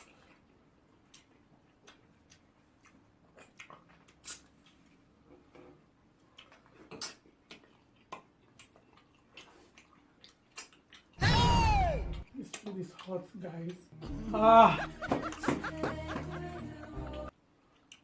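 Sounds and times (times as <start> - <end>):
open-mouthed chewing and smacking: 0.0 - 11.2, 12.1 - 18.0.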